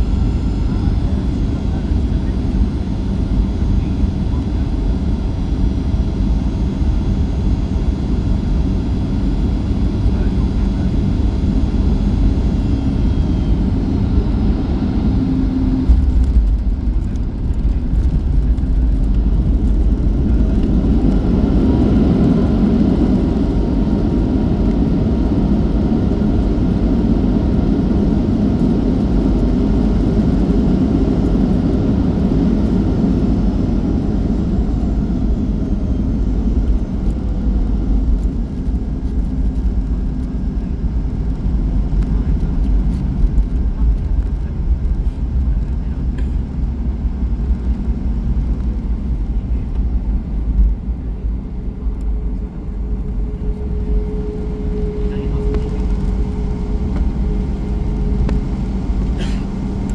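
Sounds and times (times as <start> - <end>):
aircraft cabin engine rumble: 0.0 - 59.9
engine whine: 0.0 - 59.9.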